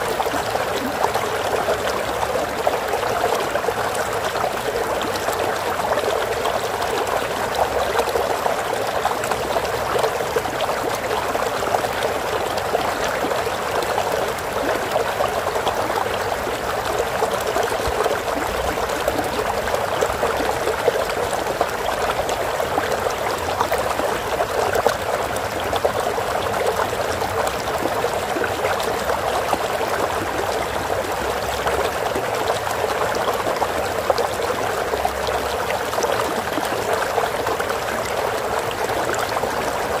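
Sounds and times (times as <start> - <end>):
stream flowing and trickling: 0.0 - 40.0.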